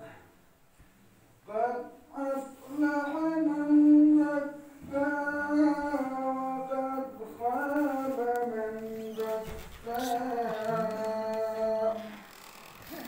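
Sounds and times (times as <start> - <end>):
person chanting a religious recitation: 1.4 - 13.0.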